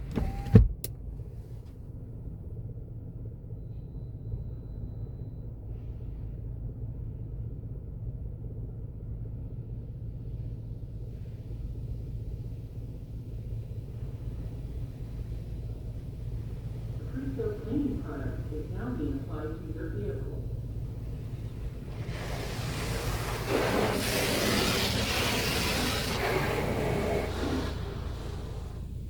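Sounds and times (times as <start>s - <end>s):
car wash rumble inside car: 0.0s - 29.0s.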